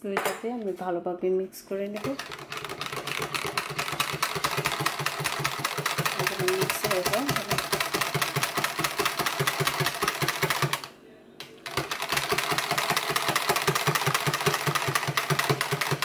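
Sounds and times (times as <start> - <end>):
whisk clicking in a jug: 2.0 - 10.8, 11.7 - 16.0.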